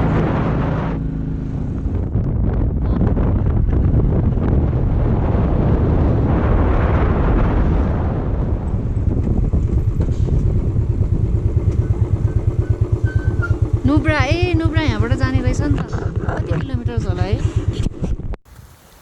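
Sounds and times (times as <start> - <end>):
motorcycle engine running: 0.0 - 6.5, 7.3 - 18.4
wind noise: 0.0 - 19.0.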